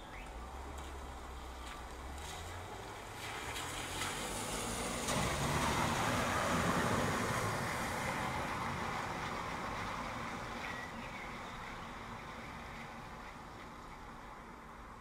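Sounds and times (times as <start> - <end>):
steady rain: 0.2 - 15.0
car tyres hissing on wet road: 0.4 - 15.0.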